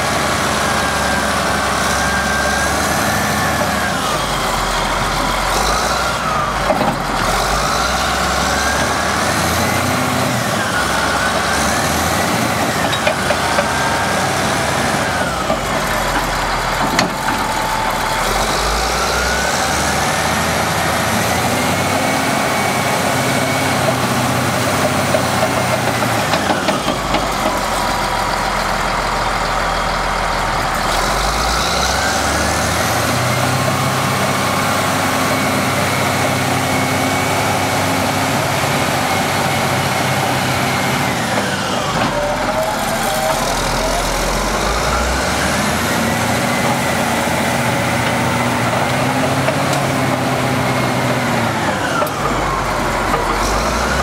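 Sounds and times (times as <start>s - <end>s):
bulldozer engine revving: 0.0s - 54.0s.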